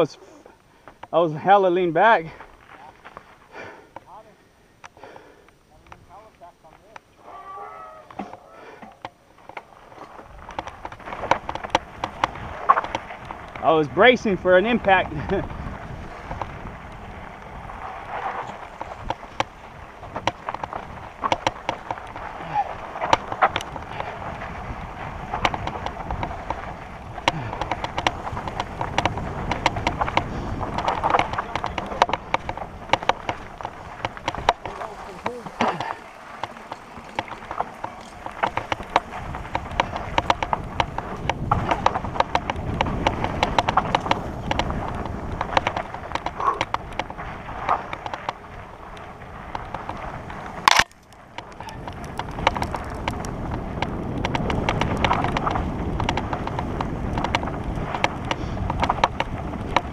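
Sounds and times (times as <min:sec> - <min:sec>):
bike clicks and rattles: 0:00.0 - 0:04.2, 0:04.8 - 0:07.4, 0:08.0 - 0:59.9
bike tyres rolling on dirt: 0:00.0 - 0:59.9
wind on microphone: 0:09.8 - 0:59.9.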